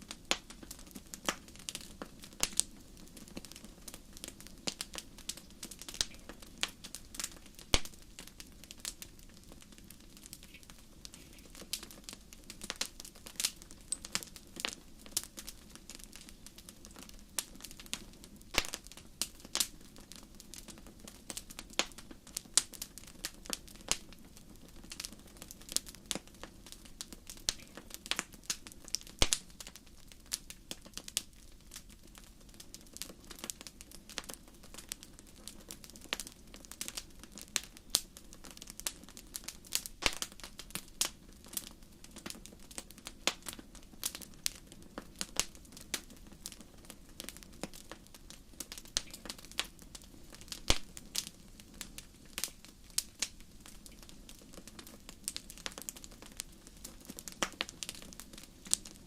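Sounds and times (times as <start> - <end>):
faint low background noise: 0.0 - 59.0
wood fire crackling and popping: 0.0 - 59.0.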